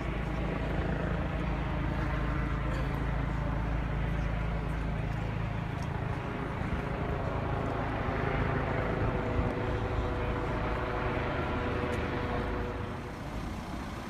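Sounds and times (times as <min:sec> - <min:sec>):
helicopter drone: 0:00.0 - 0:14.0.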